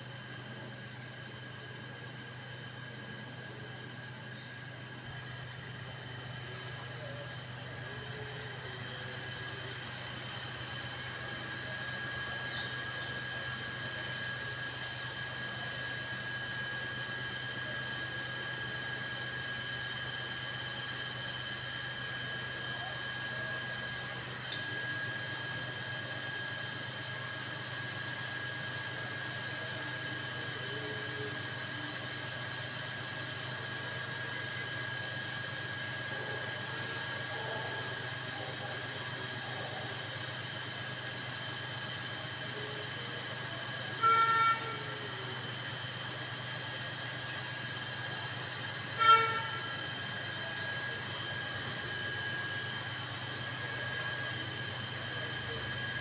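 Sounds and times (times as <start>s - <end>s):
high-pitched whine: 0.0s - 32.3s, 41.5s - 56.0s.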